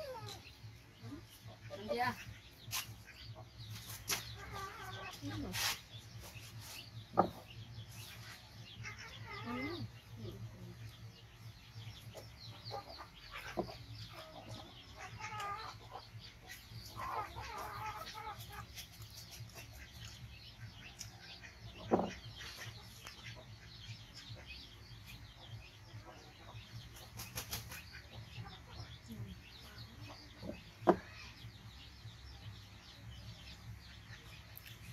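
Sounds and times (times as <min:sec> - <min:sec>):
bird chirps and clucks: 0:00.0 - 0:34.9.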